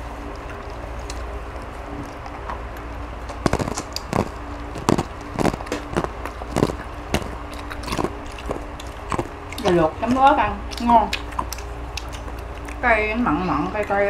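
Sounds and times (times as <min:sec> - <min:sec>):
steady low hum: 0:00.0 - 0:14.0
chewing and smacking: 0:00.2 - 0:12.8.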